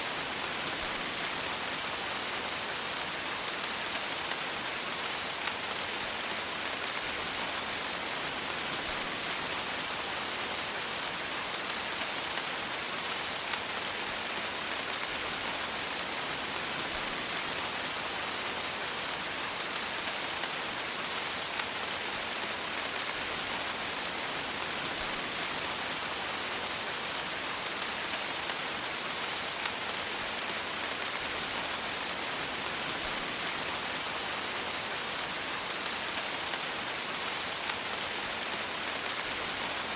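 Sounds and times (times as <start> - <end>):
steady rain: 0.0 - 39.9
raindrops pattering on surface: 0.1 - 39.9.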